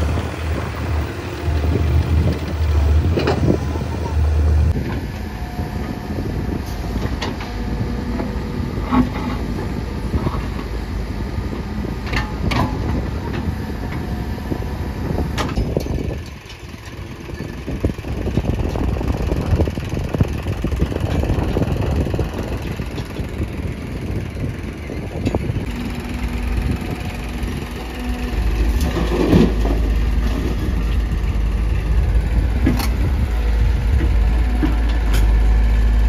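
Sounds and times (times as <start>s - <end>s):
heavy diesel machinery running: 0.0s - 36.0s.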